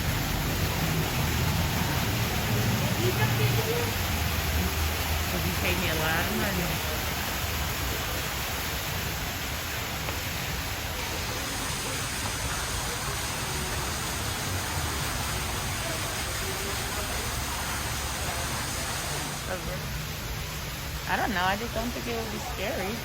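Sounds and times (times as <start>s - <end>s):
indoor waterfall rushing: 0.0s - 23.0s.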